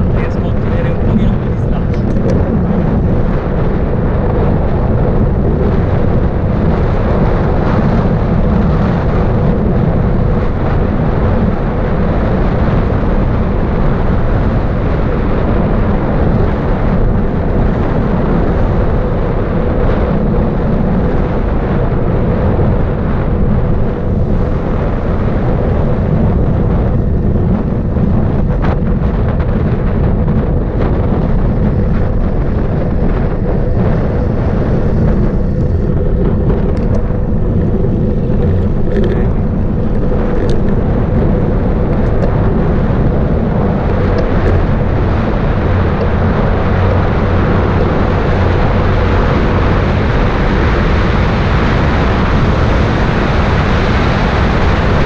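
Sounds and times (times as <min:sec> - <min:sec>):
bike tyre noise on asphalt: 0:00.0 - 0:55.0
wind buffeting microphone: 0:00.0 - 0:55.0.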